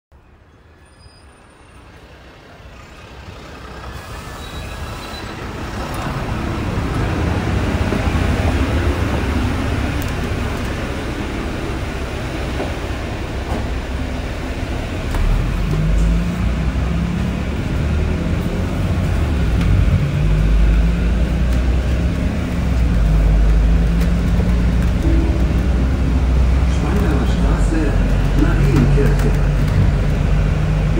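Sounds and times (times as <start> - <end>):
bus engine and air conditioning hum: 1.3 - 30.9
deep engine drone: 5.4 - 30.9.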